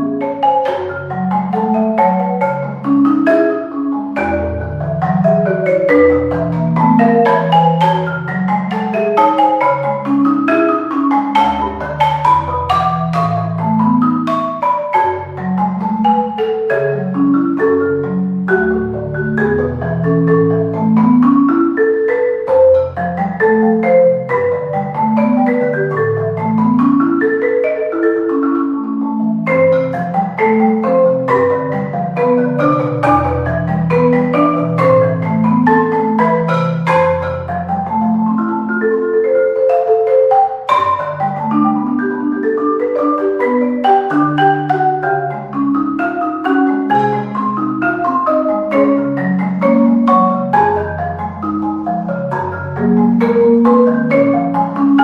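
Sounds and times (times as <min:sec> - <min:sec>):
marimba playing fast runs: 0:00.0 - 0:55.0.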